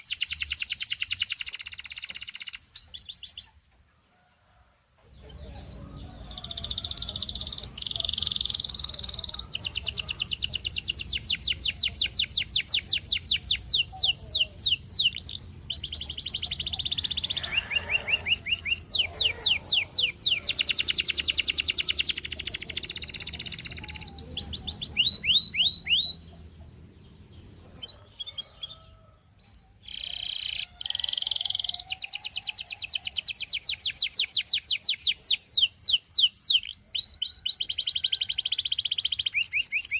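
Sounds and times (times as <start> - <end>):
canary singing trills: 0.0 - 3.6, 5.1 - 39.9.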